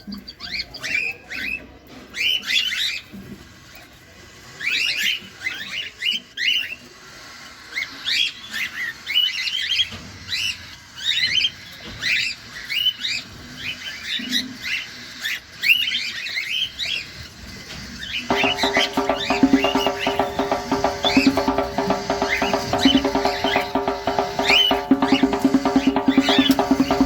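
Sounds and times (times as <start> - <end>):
cockatiels chirping: 0.0 - 27.0.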